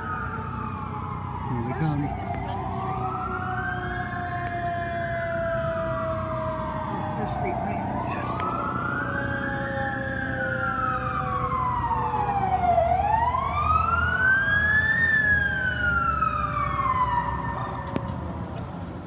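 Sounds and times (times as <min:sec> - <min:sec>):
fire engine siren wailing: 0:00.0 - 0:19.0.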